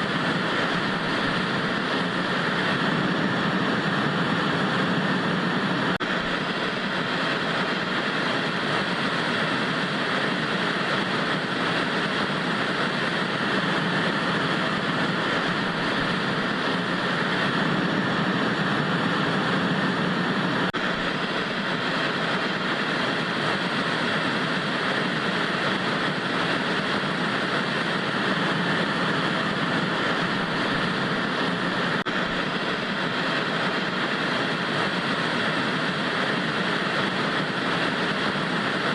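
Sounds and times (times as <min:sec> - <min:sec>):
tv static hiss: 0:00.0 - 0:38.9.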